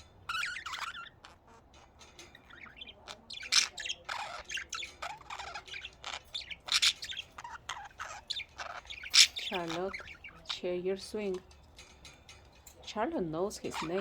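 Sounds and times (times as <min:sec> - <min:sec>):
budgies chattering and squawking: 0:00.0 - 0:14.0.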